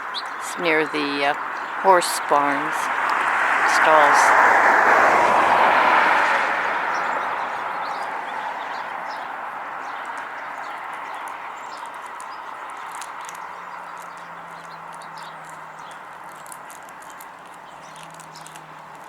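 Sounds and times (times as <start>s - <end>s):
small birds chirping: 0.0s - 4.3s, 6.9s - 19.0s.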